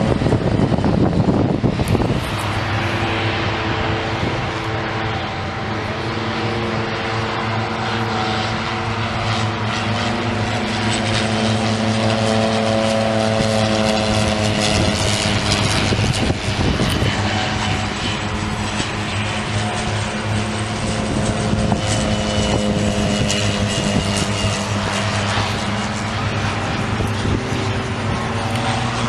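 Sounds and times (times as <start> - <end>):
propeller aircraft engine drone: 0.0 - 29.0.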